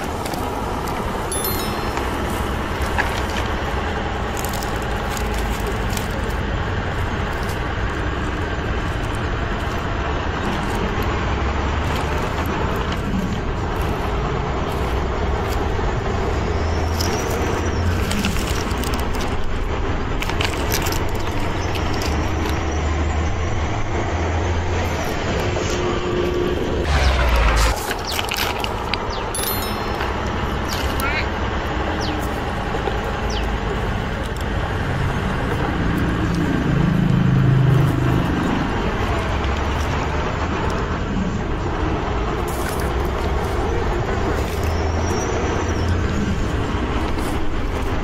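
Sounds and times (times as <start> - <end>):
toy truck wheels crunching on dirt: 0.0 - 48.0.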